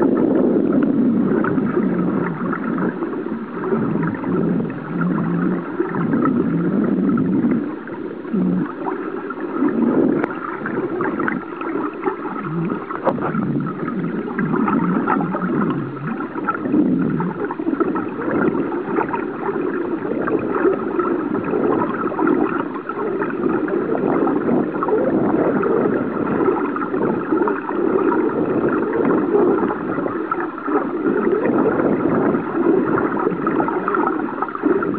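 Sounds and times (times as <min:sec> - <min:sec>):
faint boat engine drone: 0:00.0 - 0:34.9
underwater rumble and gurgling: 0:00.0 - 0:34.9.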